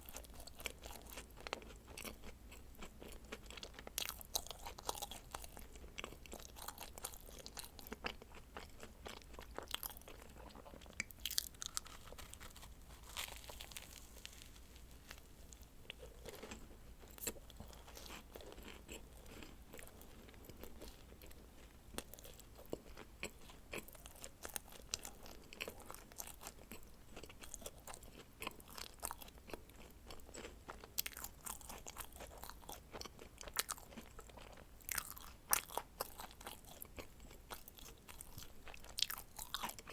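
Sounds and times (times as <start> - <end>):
biting and chewing: 0.0 - 21.4, 22.0 - 39.9.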